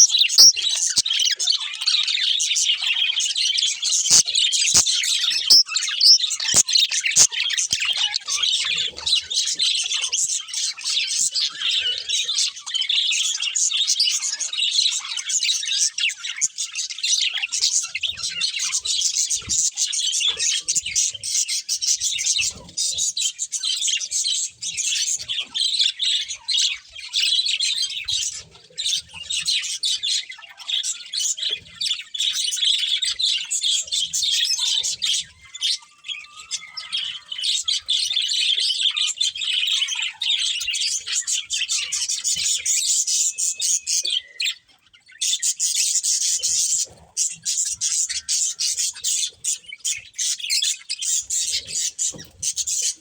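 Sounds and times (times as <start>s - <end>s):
budgies chirping: 0.0s - 53.0s.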